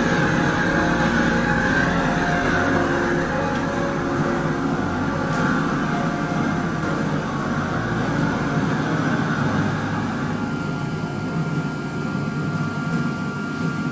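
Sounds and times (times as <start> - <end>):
engine drone: 0.0 - 13.9
thin steady whine: 0.0 - 13.9.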